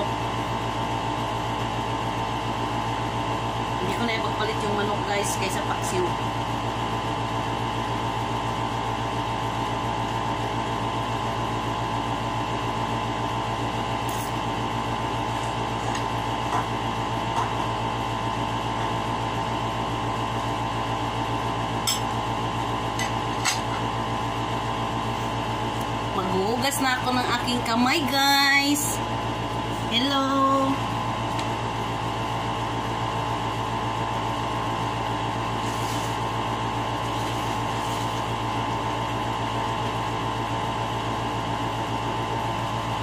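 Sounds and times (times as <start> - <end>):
appliance motor hum: 0.0 - 43.0.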